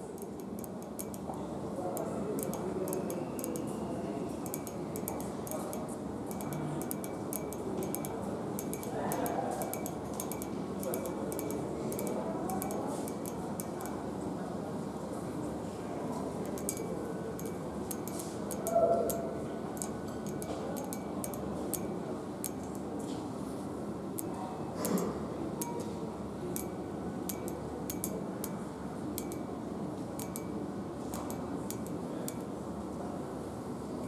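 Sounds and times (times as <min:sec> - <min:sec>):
shopping centre hum: 0:00.0 - 0:34.0.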